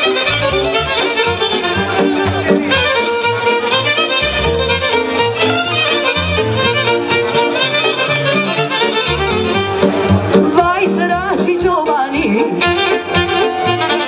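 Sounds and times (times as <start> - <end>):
double bass notes: 0.0 - 14.0
fiddles playing melody: 0.0 - 14.0.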